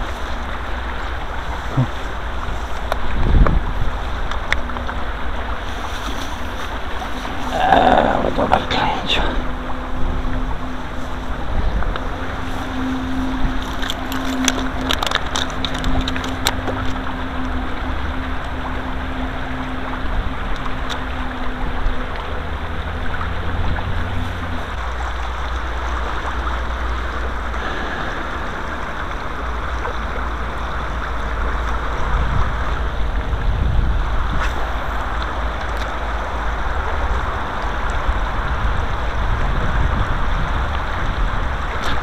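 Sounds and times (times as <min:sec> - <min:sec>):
low steady hum: 0:00.0 - 0:41.8
river water flowing over stones: 0:00.0 - 0:42.0
wind rumble on microphone: 0:00.0 - 0:42.0.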